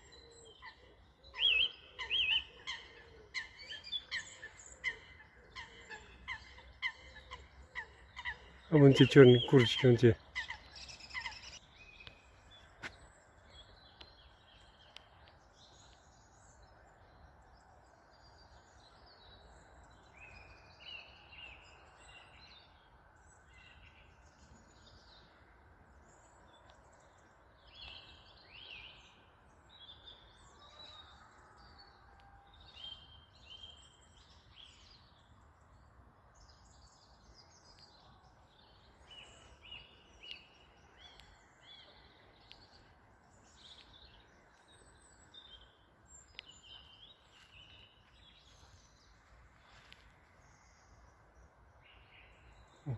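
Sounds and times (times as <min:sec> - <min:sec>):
songbird chirping and warbling: 0:00.0 - 0:52.9.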